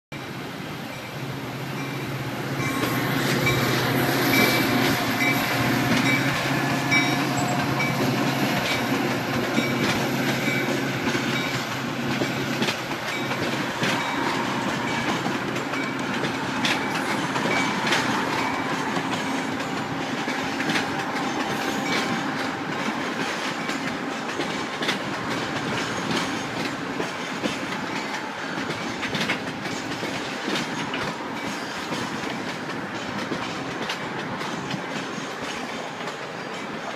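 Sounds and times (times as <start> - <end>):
train wheels clicking on rails: 0.2 - 36.9.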